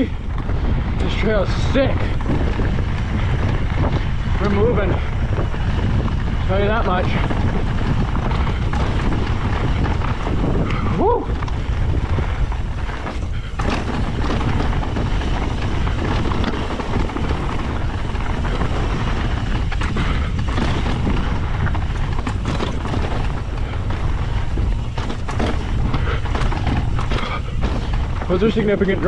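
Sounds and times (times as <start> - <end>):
bike rattling and knocking: 0.0 - 29.0
tyres crunching over gravel: 0.0 - 29.0
wind buffeting microphone: 0.0 - 29.0.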